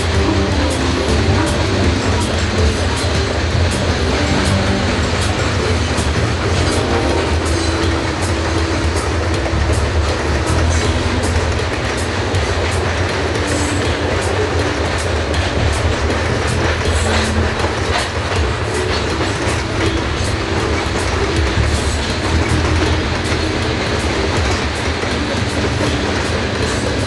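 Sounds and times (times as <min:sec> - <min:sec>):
steel wheels rumbling on rail: 0:00.0 - 0:27.0
wheels clicking over rail joints: 0:00.0 - 0:27.0.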